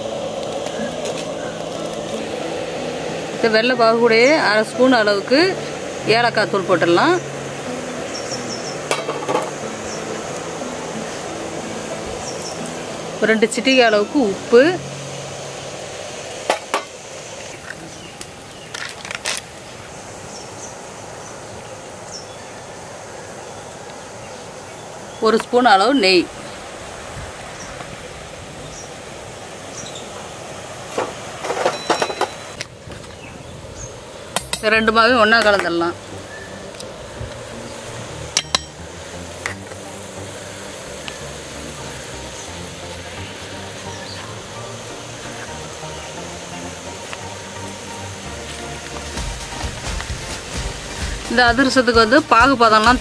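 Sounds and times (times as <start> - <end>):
low background noise: 0.0 - 53.0
steady background hiss: 0.0 - 53.0.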